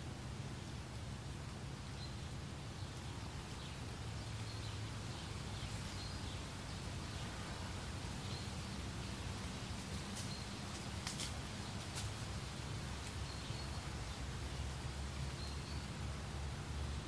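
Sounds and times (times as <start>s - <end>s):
wind rustling grass: 0.0s - 17.0s.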